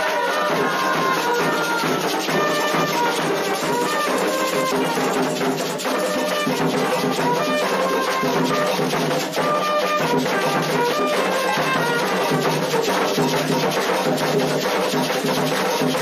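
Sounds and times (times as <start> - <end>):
continuous drumming: 0.0 - 16.0.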